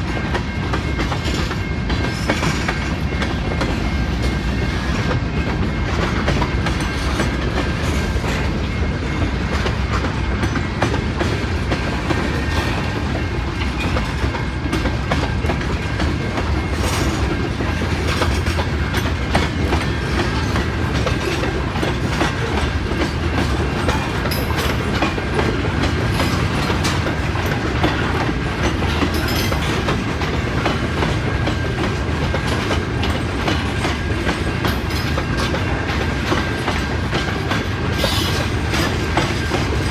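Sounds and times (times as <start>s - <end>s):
freight train cars rolling: 0.0s - 39.9s
wheels clicking over rail joints: 5.4s - 39.9s.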